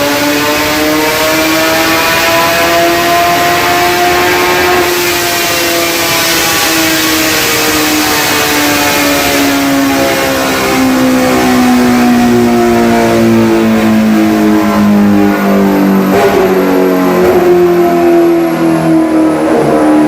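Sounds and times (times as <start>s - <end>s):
motorcycle engine running hard: 0.0s - 20.0s.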